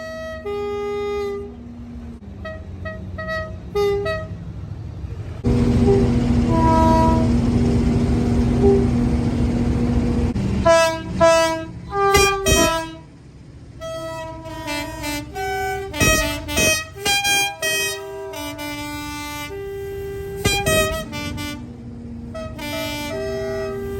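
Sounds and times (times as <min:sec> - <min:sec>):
two-tone train horn blasts: 0:00.0 - 0:04.4, 0:05.4 - 0:13.2, 0:13.8 - 0:23.9
train rumbling past: 0:00.0 - 0:23.9.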